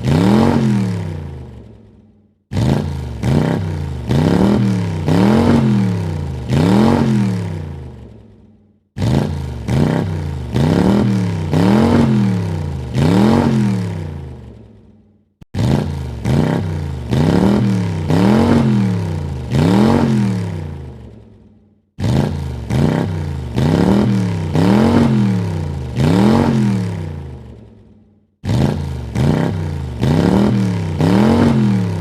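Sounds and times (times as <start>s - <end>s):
car engine revving: 0.0s - 1.9s, 2.5s - 8.4s, 9.0s - 14.7s, 15.5s - 21.2s, 22.0s - 27.6s, 28.4s - 32.0s.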